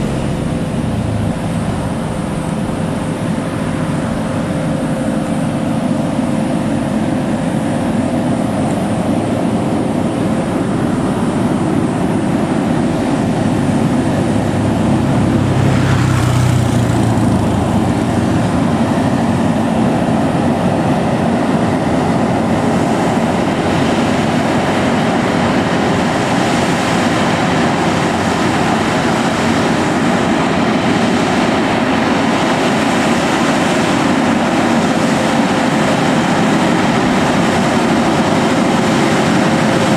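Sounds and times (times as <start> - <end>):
heavy truck diesel engine rumbling: 0.0 - 39.9.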